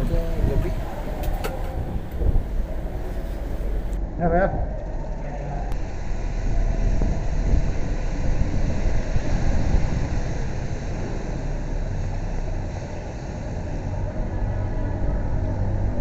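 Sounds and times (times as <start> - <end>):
low road rumble: 0.0 - 16.0
wind rush over microphone: 0.0 - 16.0.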